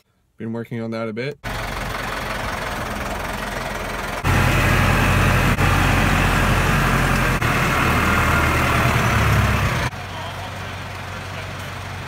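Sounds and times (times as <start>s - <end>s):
tractor engine running: 1.4s - 12.0s.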